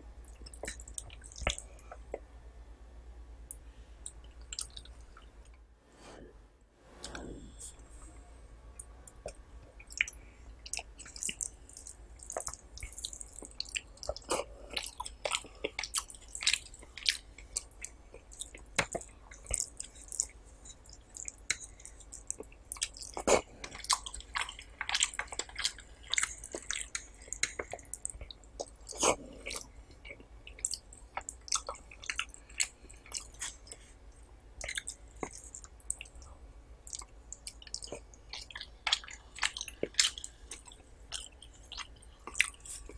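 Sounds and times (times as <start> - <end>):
person chewing food: 0.3 - 2.2, 4.0 - 5.5, 8.8 - 34.0, 34.6 - 42.9.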